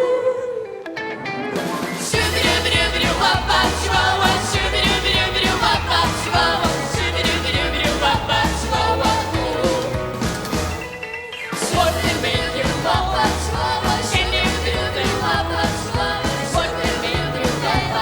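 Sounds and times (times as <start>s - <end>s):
steady drums: 1.6s - 18.0s
voices singing: 2.0s - 10.9s, 11.5s - 18.0s
bass line: 2.2s - 10.9s, 11.8s - 18.0s.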